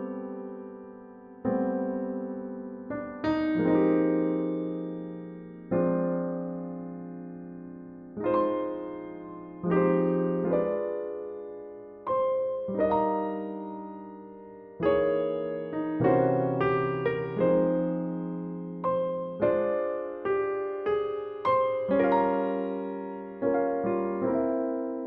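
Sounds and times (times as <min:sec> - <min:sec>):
solo jazz piano chords: 0:00.0 - 0:25.0.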